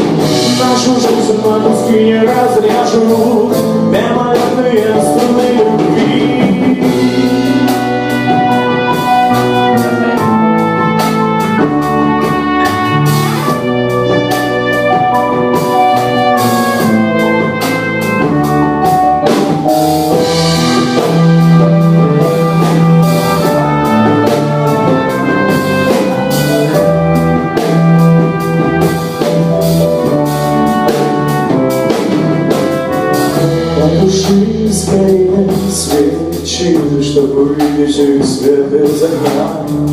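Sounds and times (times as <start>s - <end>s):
brass-led pop instrumental: 0.0s - 39.9s.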